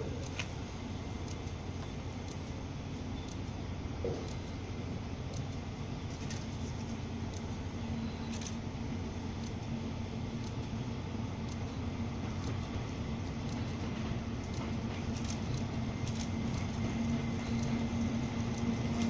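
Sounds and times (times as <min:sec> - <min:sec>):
distant train rumble: 0:00.0 - 0:19.0
steady hum: 0:00.0 - 0:19.0.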